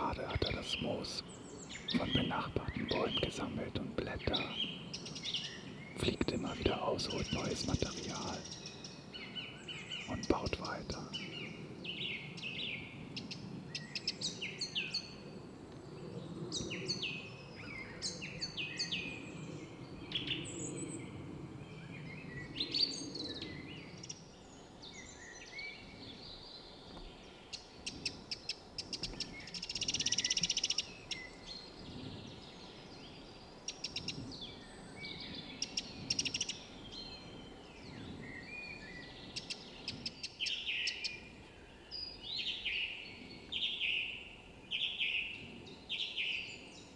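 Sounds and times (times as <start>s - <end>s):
songbirds singing and calling: 0.0s - 46.9s.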